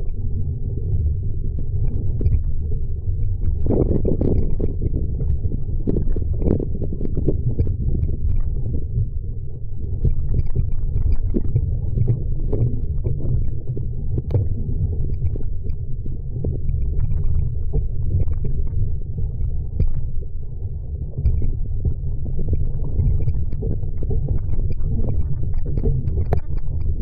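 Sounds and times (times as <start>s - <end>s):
choppy water splashing on hull: 0.1s - 27.0s.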